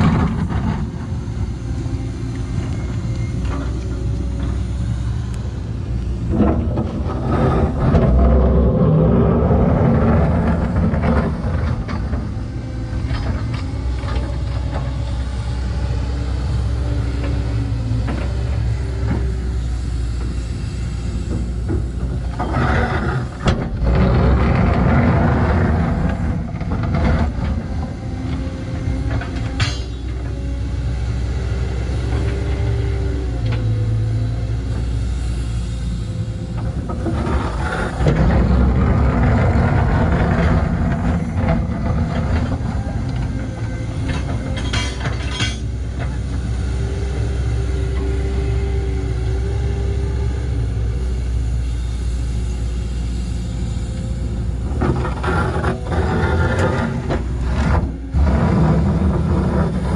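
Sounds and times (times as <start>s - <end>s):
diesel engine rumble: 0.0s - 59.9s
hydraulic whine: 0.0s - 59.9s.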